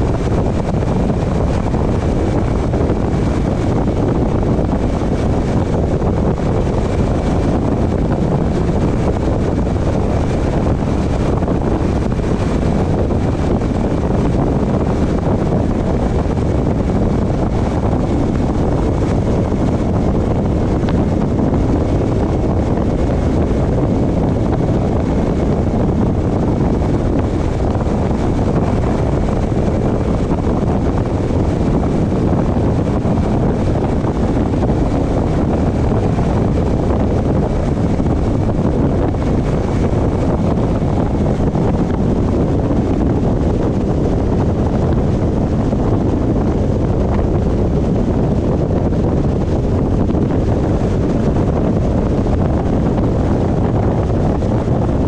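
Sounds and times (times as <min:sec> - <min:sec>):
car road noise: 0:00.0 - 0:55.0
wind rushing over microphone: 0:00.0 - 0:55.0.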